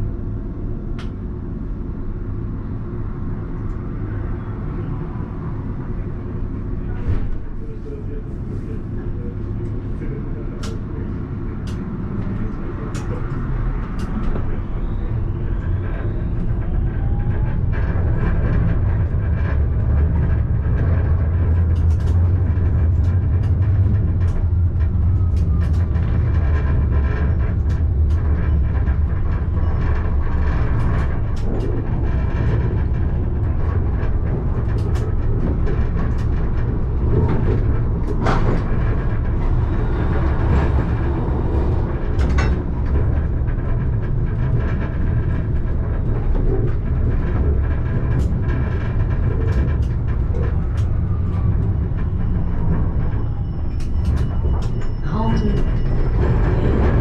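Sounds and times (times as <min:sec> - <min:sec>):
tram rumbling on rails: 0:00.0 - 0:57.0.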